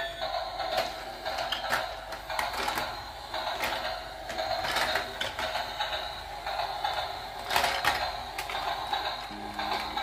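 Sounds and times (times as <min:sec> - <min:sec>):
toy train clicking: 0:00.0 - 0:10.0
toy train motor whirring: 0:00.0 - 0:10.0.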